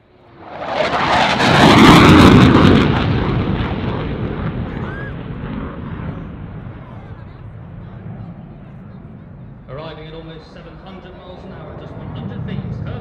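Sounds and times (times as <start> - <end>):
jet engines in afterburner: 0.0 - 13.0.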